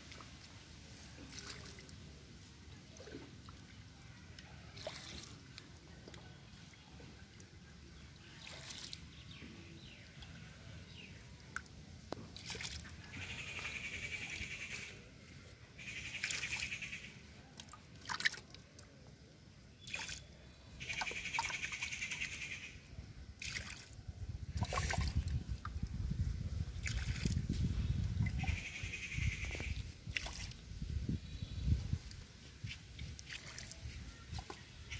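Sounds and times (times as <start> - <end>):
muddy water splashing: 0.0 - 10.5, 11.2 - 22.6, 23.3 - 34.9.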